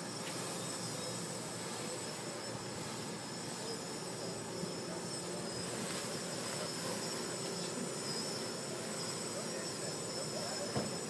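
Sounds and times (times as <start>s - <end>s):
drone propellers buzzing: 0.0s - 11.0s.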